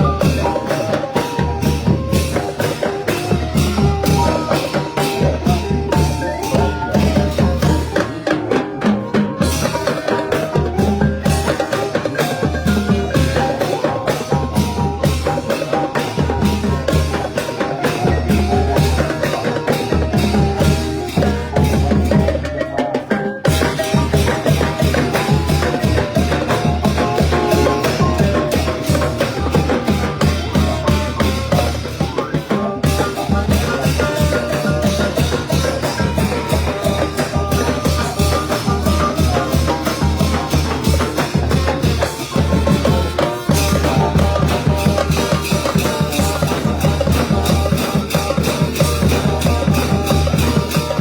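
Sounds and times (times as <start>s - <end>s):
brass band playing: 0.0s - 22.2s, 23.5s - 51.0s
drums and percussion beat: 0.0s - 51.0s.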